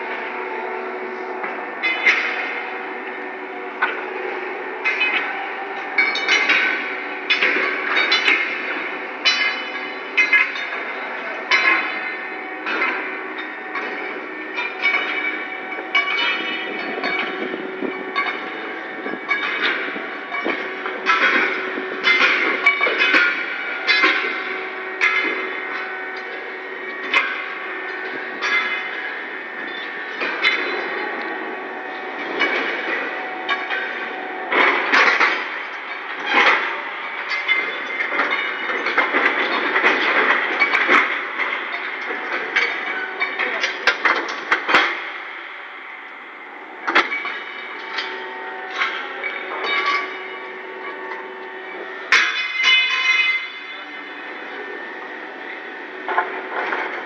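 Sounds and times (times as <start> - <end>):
mechanical hum: 0.0 - 57.0
steel rails clanking: 0.0 - 57.0.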